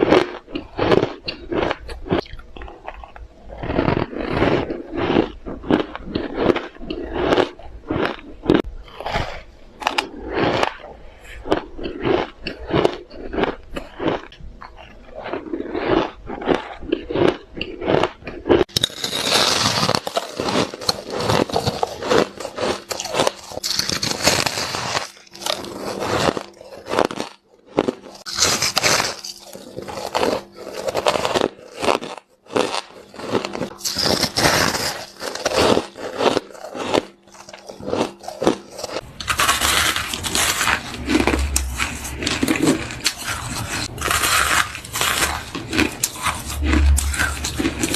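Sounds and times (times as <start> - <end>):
ice being chewed: 0.0 - 47.9.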